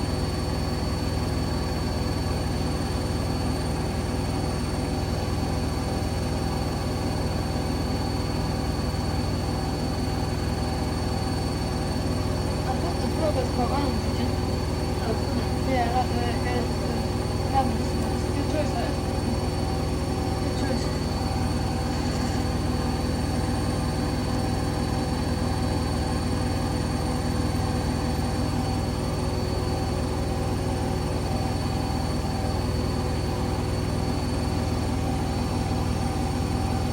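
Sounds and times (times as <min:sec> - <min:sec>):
motor whine: 0:00.0 - 0:36.9
washing machine spinning: 0:00.0 - 0:36.9.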